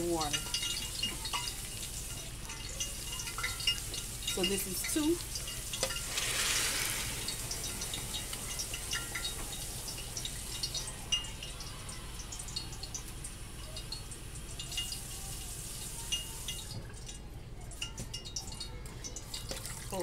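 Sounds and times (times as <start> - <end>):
water pouring into pot: 0.0 - 20.0
small ticks and pops from pot: 0.1 - 15.2, 15.8 - 20.0.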